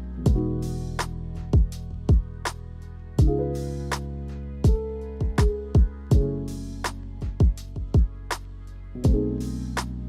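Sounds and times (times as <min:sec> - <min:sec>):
beat with kick drum and snare: 0:00.0 - 0:10.0.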